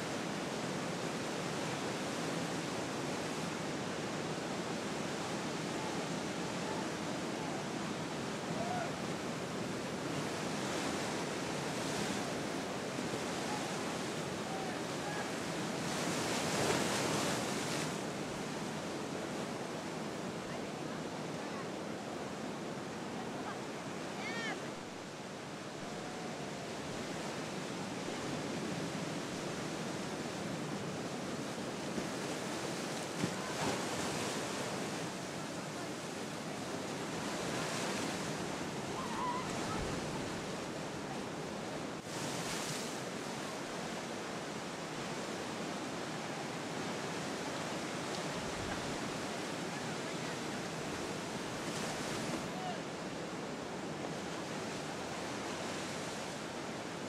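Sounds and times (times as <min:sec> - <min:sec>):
ocean surf breaking: 0:00.0 - 0:57.0
wind: 0:00.0 - 0:57.0.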